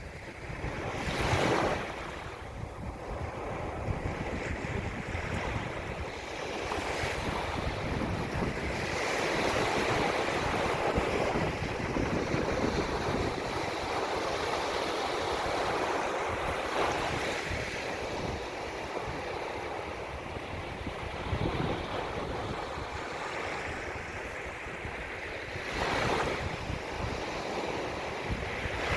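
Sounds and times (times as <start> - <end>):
gusting wind: 0.0 - 28.9
ocean surf washing: 0.0 - 28.9
wind buffeting microphone: 0.0 - 28.9.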